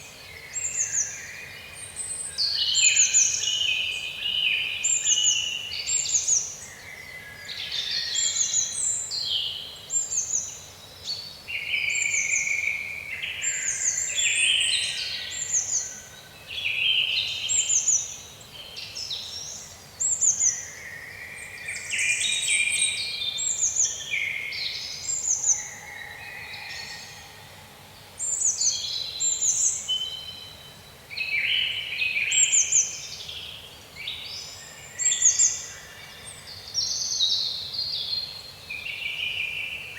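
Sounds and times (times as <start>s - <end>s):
faint background hiss: 0.0s - 39.9s
songbirds chirping and trilling: 0.0s - 39.9s.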